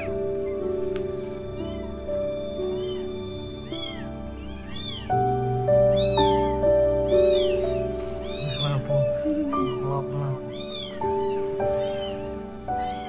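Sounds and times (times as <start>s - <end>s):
background music with held notes: 0.0s - 13.0s
kittens mewing: 1.3s - 13.0s.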